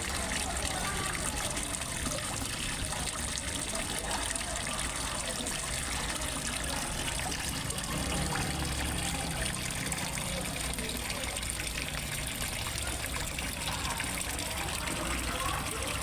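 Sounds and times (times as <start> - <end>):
water splashing into a pond: 0.0 - 16.0.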